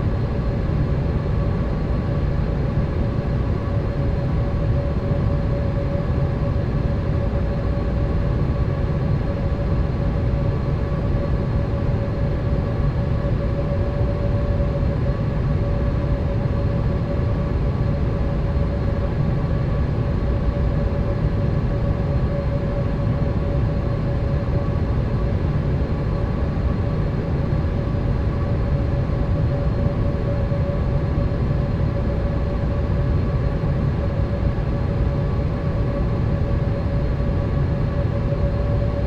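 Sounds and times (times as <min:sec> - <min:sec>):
constant hum: 0:00.0 - 0:39.0.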